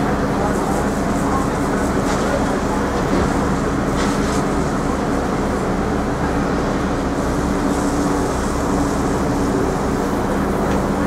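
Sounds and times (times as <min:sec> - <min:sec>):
city street rumble: 0:00.0 - 0:11.0.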